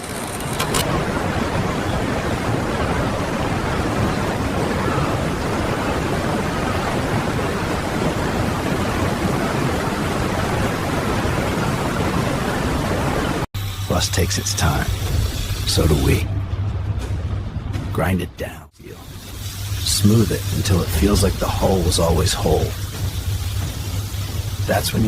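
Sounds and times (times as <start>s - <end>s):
loud steady rushing noise: 0.0s - 25.0s.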